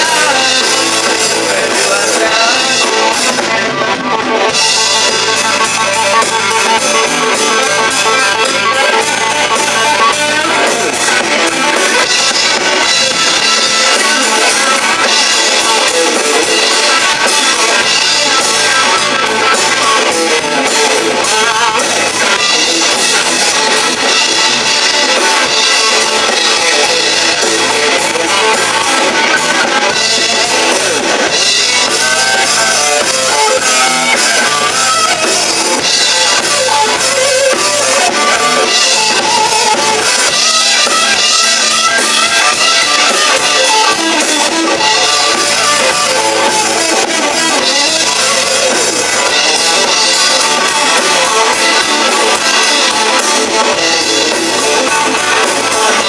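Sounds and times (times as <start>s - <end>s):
drum kit: 0.0s - 56.0s
electric bass guitar: 0.0s - 56.0s
electric guitar: 0.0s - 56.0s.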